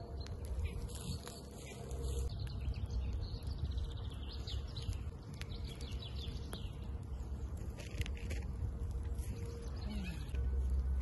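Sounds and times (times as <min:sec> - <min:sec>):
wood fire crackling and popping: 0:00.0 - 0:09.7
songbirds chirping and trilling: 0:00.0 - 0:11.0.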